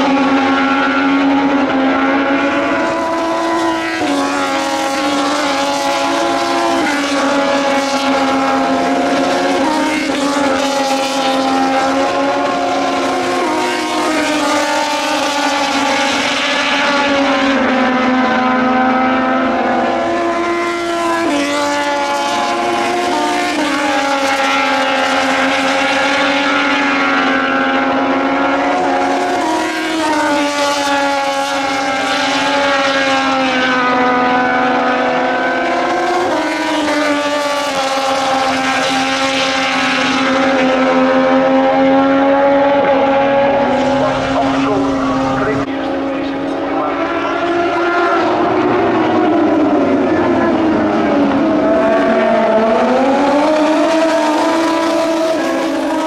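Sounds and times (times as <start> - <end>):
motorcycle engines at high revs: 0.0 - 56.0.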